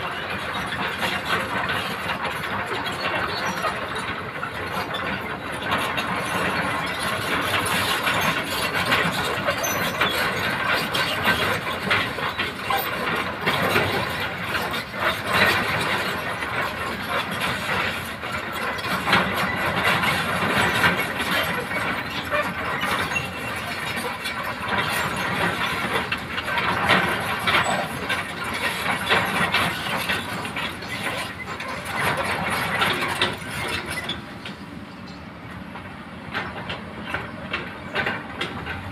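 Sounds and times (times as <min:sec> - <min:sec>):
diesel engine running: 0:00.0 - 0:38.9
steel tracks squealing and clanking: 0:00.0 - 0:38.9.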